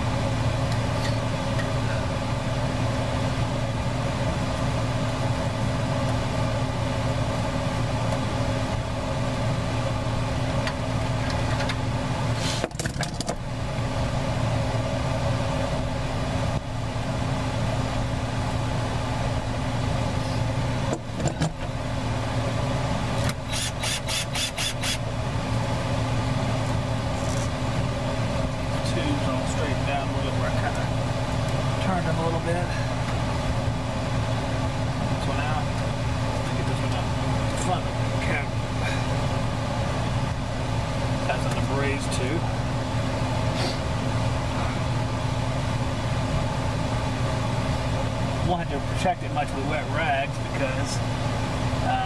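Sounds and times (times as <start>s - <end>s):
portable fan humming: 0.0s - 52.0s.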